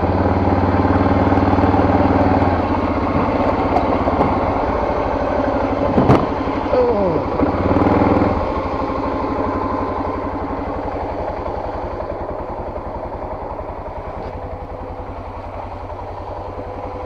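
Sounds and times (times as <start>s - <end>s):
small vehicle engine idling: 0.0s - 17.0s.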